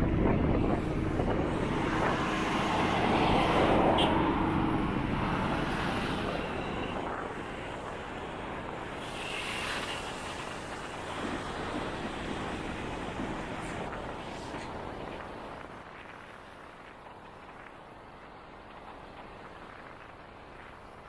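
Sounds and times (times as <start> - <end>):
passing vehicles: 0.0 - 21.0
wind rushing over microphone: 0.0 - 21.0.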